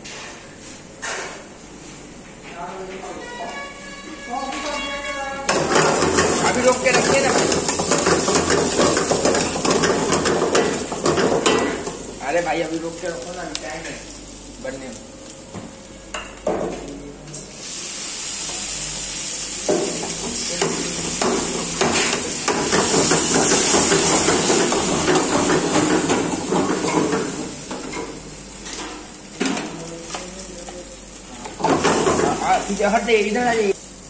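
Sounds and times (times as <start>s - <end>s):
gravy sizzling in hot oil: 5.5s - 16.4s, 17.5s - 34.0s.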